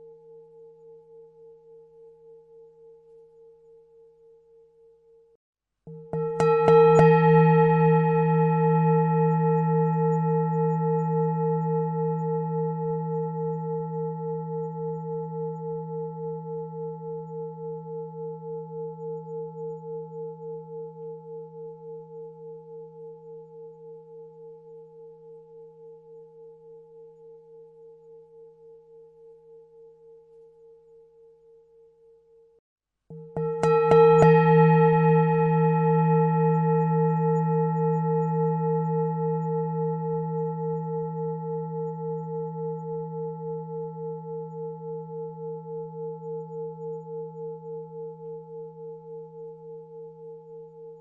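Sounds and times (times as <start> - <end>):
singing bowl ringing: 0.0 - 51.0.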